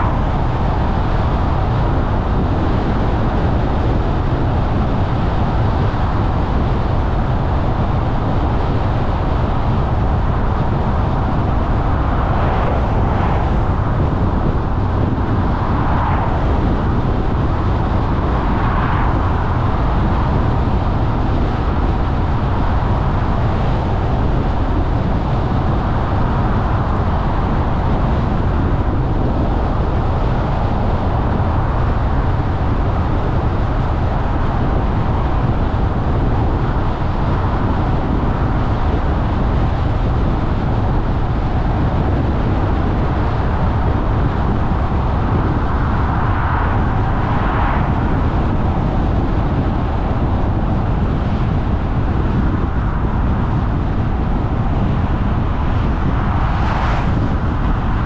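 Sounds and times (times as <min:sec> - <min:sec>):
car tyre and engine noise: 0:00.0 - 0:58.0.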